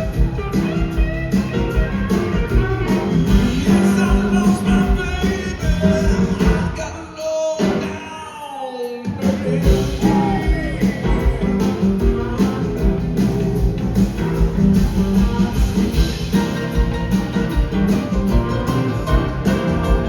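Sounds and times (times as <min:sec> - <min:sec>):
blues-rock band playing: 0:00.0 - 0:20.0.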